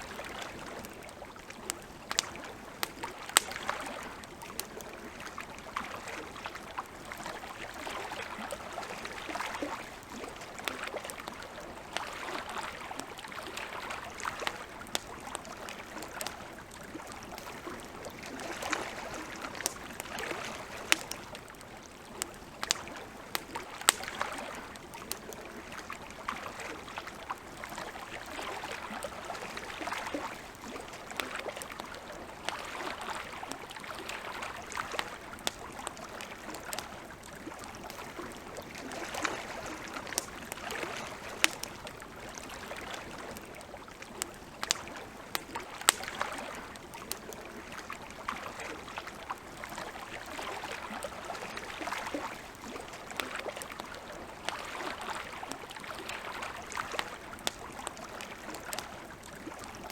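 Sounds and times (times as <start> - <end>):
campfire crackling and popping: 0.0 - 59.9
lake waves lapping: 0.0 - 59.9.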